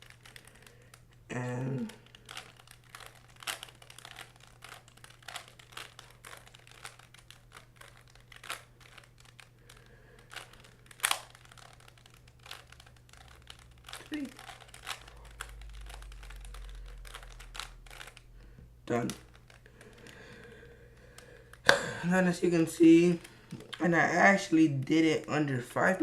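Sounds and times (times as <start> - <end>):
twisty puzzle clicking and scraping: 0.0 - 23.8.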